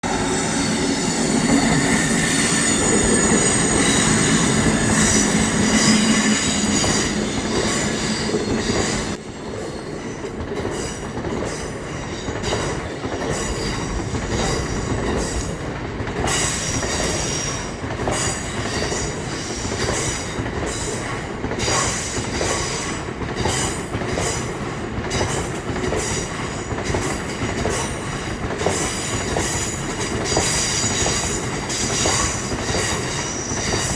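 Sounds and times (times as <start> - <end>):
freight train passing: 0.0 - 33.9
wheels clacking over rail joints: 0.2 - 33.9.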